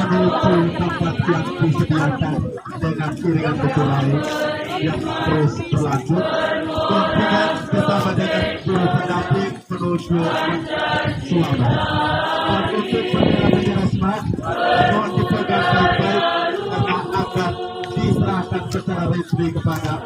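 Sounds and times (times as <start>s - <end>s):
group chanting in unison: 0.0s - 2.4s, 3.1s - 19.0s.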